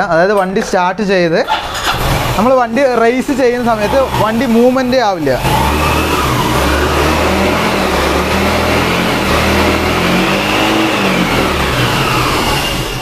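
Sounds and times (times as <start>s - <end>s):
scooter engine revving: 1.4s - 13.0s.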